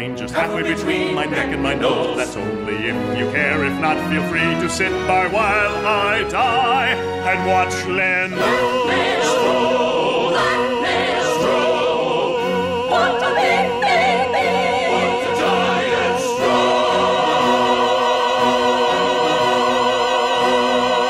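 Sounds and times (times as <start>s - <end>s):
musical accompaniment: 0.0s - 21.0s
operatic singing: 0.0s - 21.0s.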